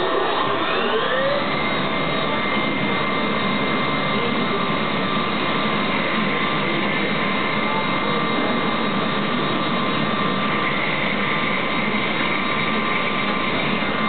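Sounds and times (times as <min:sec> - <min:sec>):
lathe spindle whine: 0:00.0 - 0:14.0
lathe tool cutting steel: 0:00.0 - 0:14.0
machine hum: 0:00.0 - 0:14.0.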